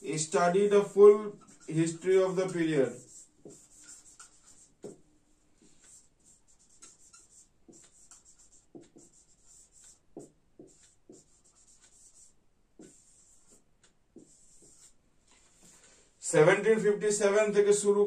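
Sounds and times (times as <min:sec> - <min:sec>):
marker pen writing on whiteboard: 0:00.0 - 0:15.9.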